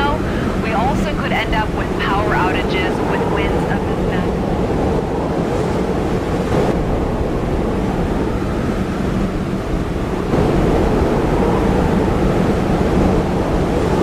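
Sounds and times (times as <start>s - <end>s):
gusting wind buffeting microphone: 0.0s - 14.0s.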